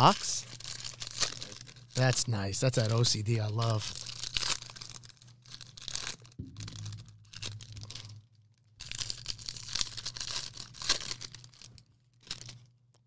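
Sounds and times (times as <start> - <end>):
wrappers torn and crinkled: 0.0 - 8.1, 8.8 - 13.0.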